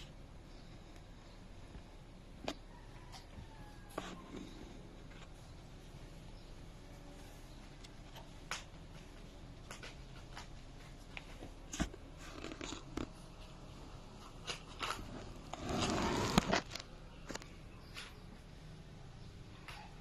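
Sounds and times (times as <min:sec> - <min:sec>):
rustling and chewing: 0:00.1 - 0:18.3.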